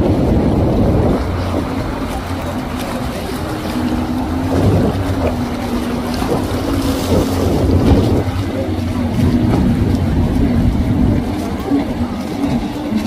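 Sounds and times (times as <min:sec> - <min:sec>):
hull splashing through water: 0:00.0 - 0:13.0
outboard motor drone: 0:00.0 - 0:13.0
wind noise on microphone: 0:00.0 - 0:13.0.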